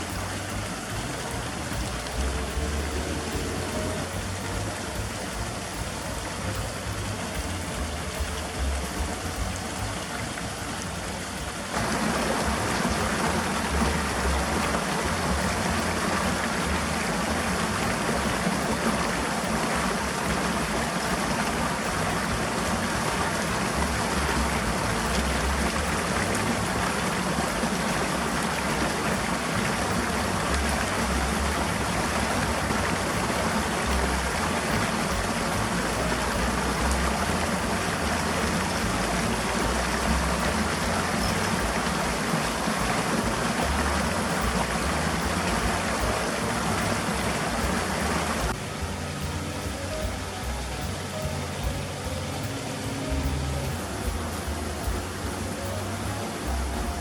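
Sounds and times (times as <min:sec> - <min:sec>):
low rumbles: 0:00.0 - 0:57.0
steady rushing noise: 0:00.0 - 0:57.0.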